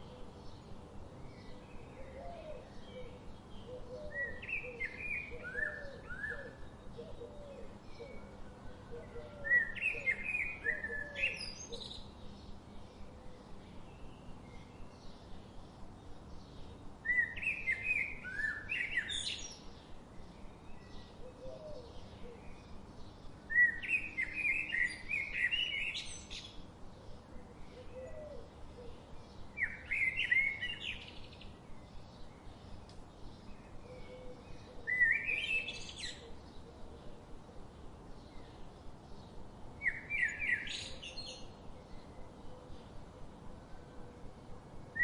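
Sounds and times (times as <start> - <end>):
faint steady hiss: 0.0 - 45.0
songbird chirping: 0.0 - 45.0.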